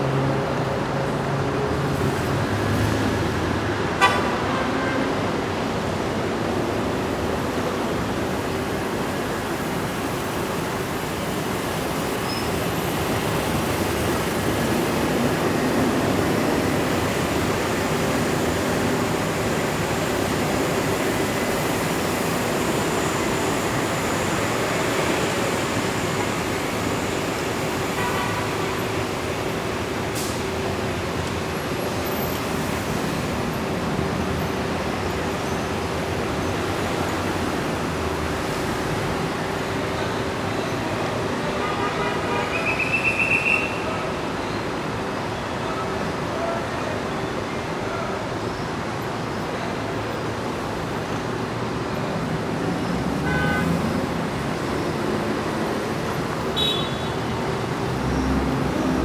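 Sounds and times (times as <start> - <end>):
engine and tyre noise: 0.0 - 59.0.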